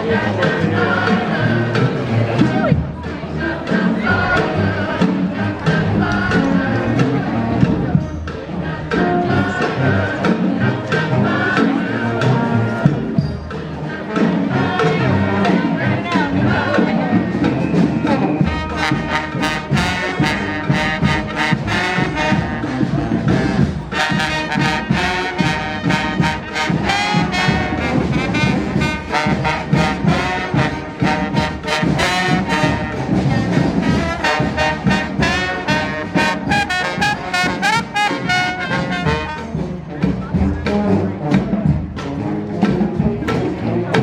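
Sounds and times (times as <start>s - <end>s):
percussion beat: 0.0s - 44.0s
street band horns playing: 0.0s - 44.0s.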